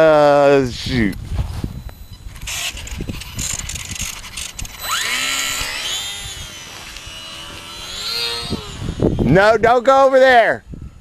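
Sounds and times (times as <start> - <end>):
electric motor and propeller whining: 1.2 - 11.0.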